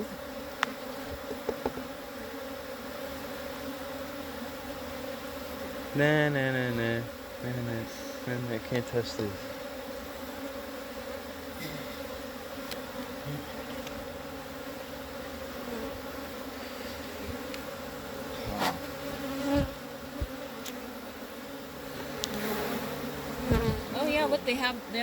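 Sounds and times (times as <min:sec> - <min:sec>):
honeybee colony buzzing: 0:00.0 - 0:25.0.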